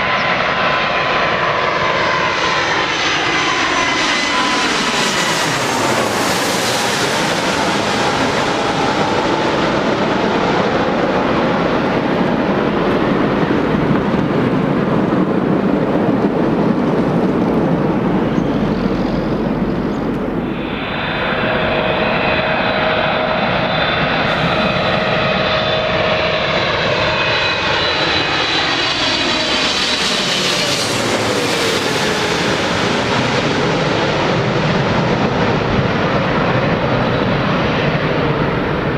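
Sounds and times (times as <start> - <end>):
jet whine sliding down: 0.0 - 36.1
jet engines roaring: 0.0 - 38.9.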